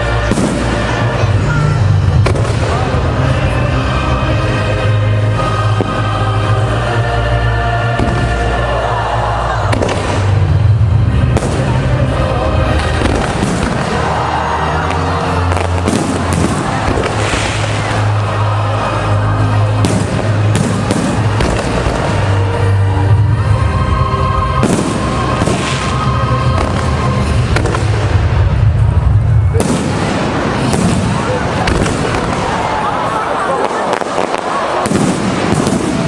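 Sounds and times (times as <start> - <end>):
fireworks bursts and crackles: 0.0 - 36.0.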